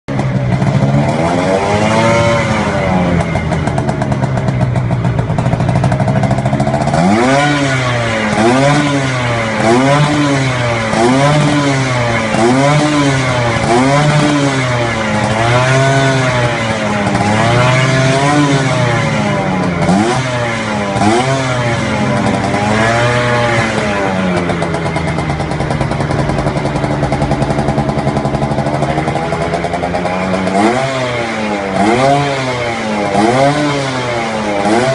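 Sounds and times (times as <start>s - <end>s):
two-stroke scooter engine revving: 0.1s - 34.9s.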